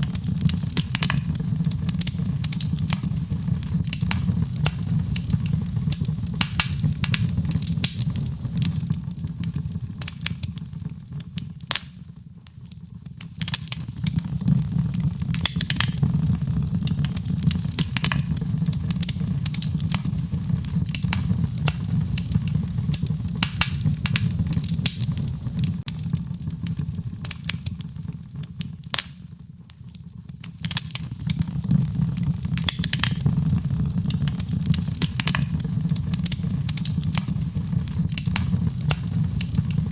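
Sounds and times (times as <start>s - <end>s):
low rumble of flame: 0.0s - 39.9s
wood fire crackling and popping: 0.0s - 39.9s.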